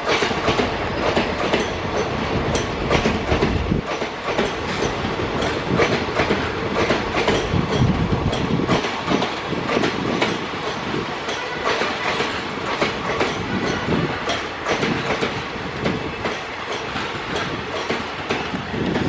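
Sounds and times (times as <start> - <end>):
train coaches rumbling past: 0.0 - 19.0
wheels clickety-clack on track: 0.0 - 19.0.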